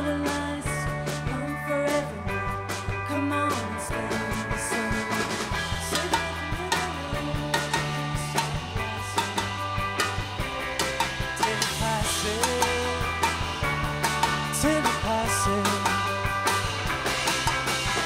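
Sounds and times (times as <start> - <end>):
drum kit beat: 0.0 - 18.0
electric guitars: 0.0 - 18.0.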